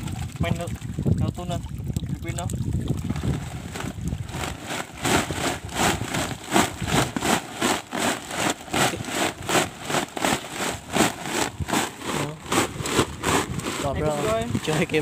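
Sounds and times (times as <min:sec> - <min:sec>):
sack sloshing in seawater: 0:02.7 - 0:15.0.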